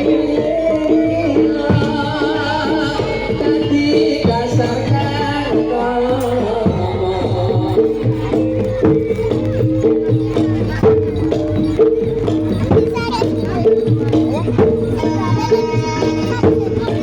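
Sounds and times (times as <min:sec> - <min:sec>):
drums beating a rhythm: 0:00.0 - 0:17.0.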